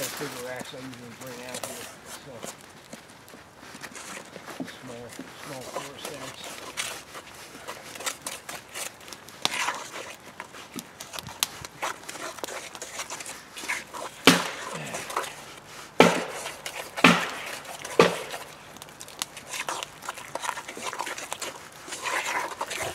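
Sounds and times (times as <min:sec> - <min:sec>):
wooden spoon stirring batter: 0:00.0 - 0:22.9.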